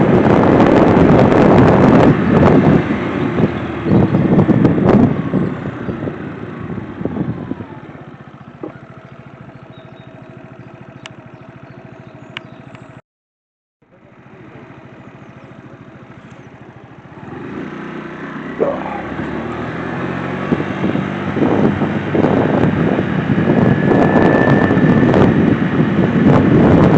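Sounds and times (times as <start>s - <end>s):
scooter engine running: 0.0s - 13.0s, 13.9s - 26.9s.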